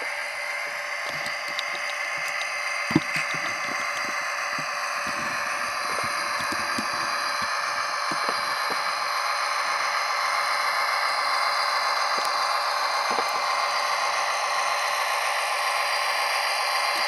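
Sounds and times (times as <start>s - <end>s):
diesel engine sound from small speaker: 0.0s - 17.0s.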